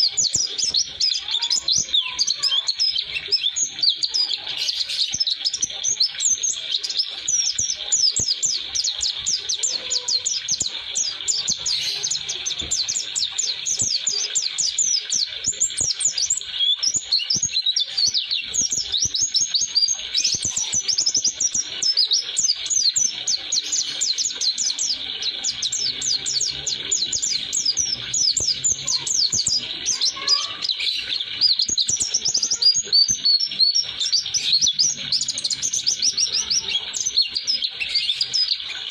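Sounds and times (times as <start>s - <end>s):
bird singing rapid high chirps: 0.0s - 38.9s.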